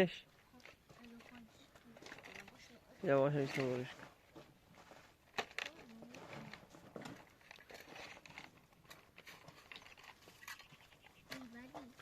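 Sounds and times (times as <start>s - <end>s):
faint rustling: 0.3s - 12.0s.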